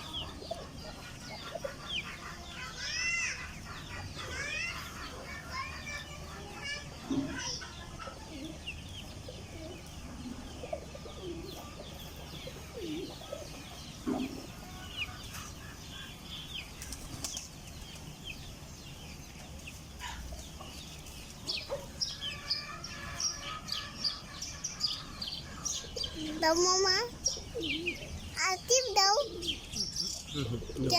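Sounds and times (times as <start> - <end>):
hen clucking: 0.0 - 16.9, 18.6 - 30.9
chicks peeping: 0.0 - 30.9.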